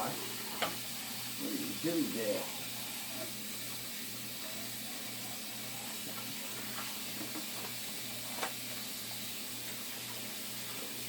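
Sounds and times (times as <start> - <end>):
sizzling hiss of cooking: 0.0 - 11.0.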